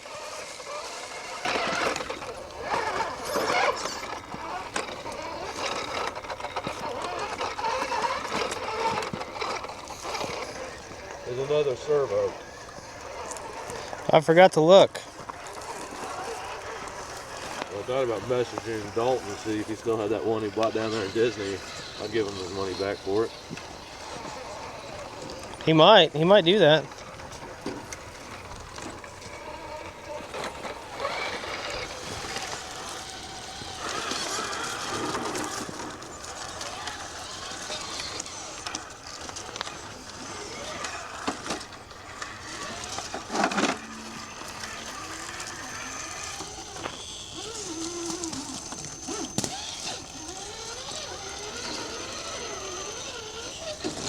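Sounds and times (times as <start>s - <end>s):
small electric motor whining: 0.0s - 54.0s
clicks and scuffs on terrain: 0.1s - 11.3s, 15.1s - 25.7s, 26.8s - 54.0s.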